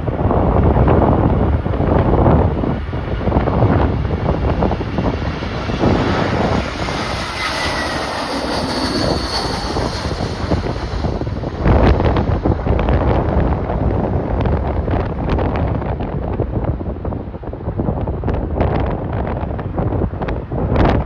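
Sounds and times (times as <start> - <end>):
jet engines passing overhead: 0.0 - 21.0
wind buffeting microphone: 0.0 - 21.0.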